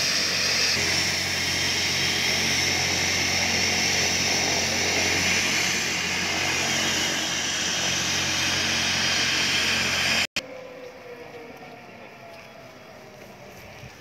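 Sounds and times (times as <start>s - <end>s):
helicopter turbine and rotor whine: 0.0s - 14.0s.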